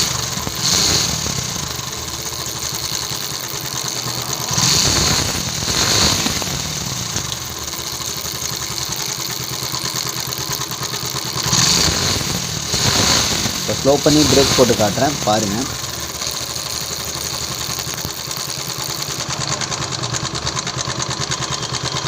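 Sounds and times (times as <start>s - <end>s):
moped engine running: 0.0s - 22.0s.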